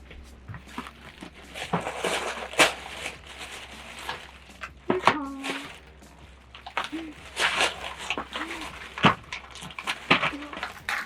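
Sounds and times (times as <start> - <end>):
chewing and mouth noises: 0.1 - 11.0.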